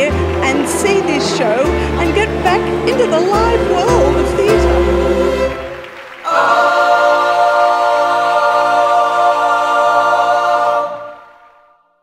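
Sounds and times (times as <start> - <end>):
choir holding a chord: 0.1 - 12.0.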